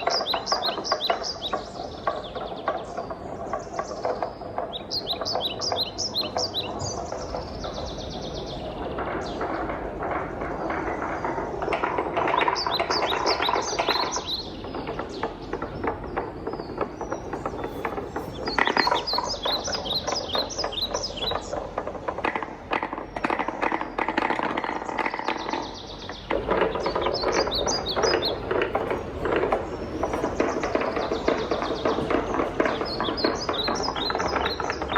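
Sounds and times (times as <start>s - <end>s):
high-pitched clicks of balls: 0.0s - 34.9s
wooden balls rolling down marble run: 0.0s - 34.9s.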